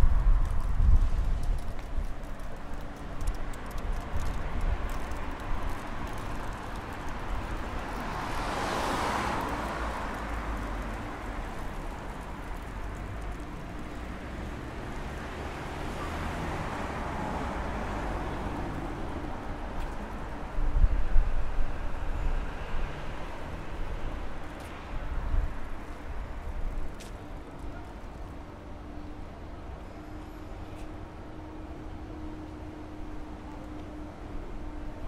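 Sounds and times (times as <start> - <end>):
cars passing: 0.0 - 35.0.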